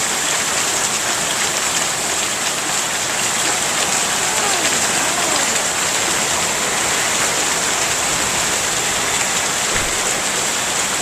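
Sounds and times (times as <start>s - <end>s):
hail and rain hissing: 0.0s - 11.0s
hailstones ticking: 0.0s - 11.0s.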